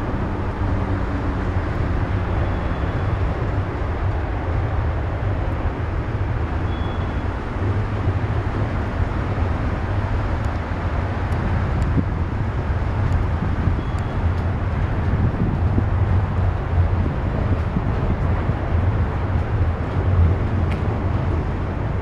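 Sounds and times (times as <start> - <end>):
freight train rumbling on bridge: 0.0 - 22.0.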